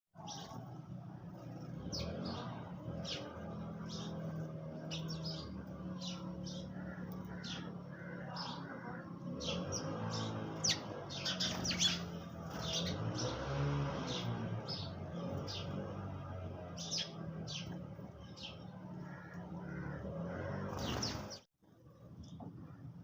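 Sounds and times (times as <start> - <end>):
sparrows chirping: 0.2 - 21.5.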